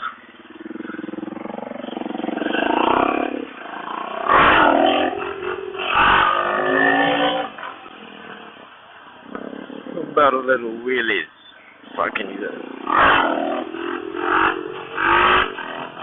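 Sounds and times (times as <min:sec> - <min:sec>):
motorcycle engine accelerating: 0:00.0 - 0:10.5, 0:11.8 - 0:16.0.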